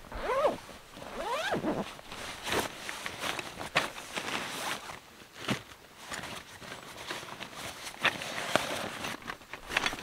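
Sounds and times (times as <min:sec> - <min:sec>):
camping gear rustling: 0:00.0 - 0:10.0.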